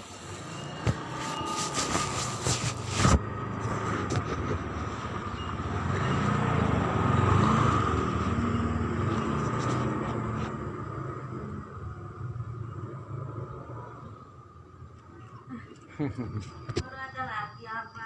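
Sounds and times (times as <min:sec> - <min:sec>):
vehicle passing on road: 0:00.0 - 0:14.9.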